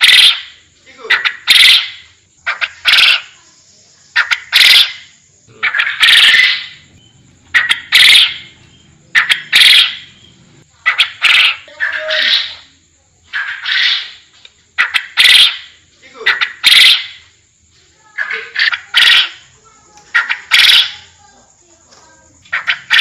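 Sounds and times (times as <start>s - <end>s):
quail calling: 0.0s - 3.4s, 4.1s - 12.7s, 13.3s - 17.3s, 18.2s - 21.1s, 22.4s - 23.0s.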